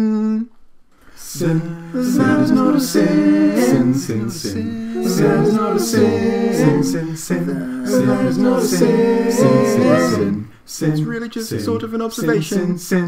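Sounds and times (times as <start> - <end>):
voices singing in harmony: 1.2 - 12.9.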